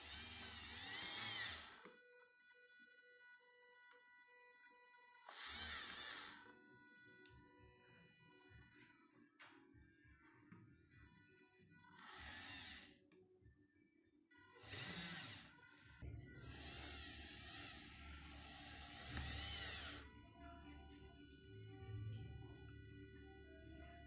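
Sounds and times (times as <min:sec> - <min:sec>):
small electric motor whirring: 0:00.0 - 0:09.0, 0:10.8 - 0:13.0, 0:14.5 - 0:24.0.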